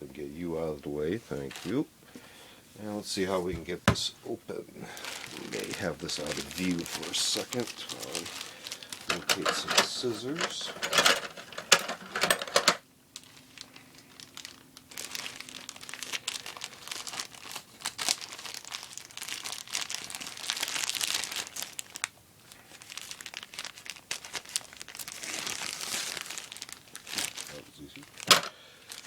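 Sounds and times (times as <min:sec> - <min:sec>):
mailing bag crinkling: 0:01.3 - 0:01.8, 0:04.8 - 0:29.0.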